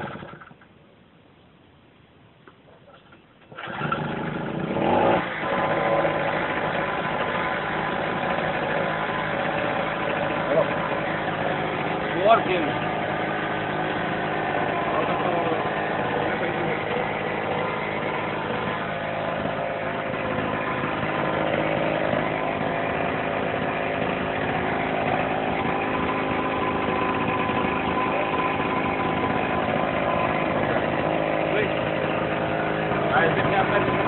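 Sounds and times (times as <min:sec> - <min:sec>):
generator engine running: 0:00.0 - 0:00.6, 0:03.4 - 0:34.0.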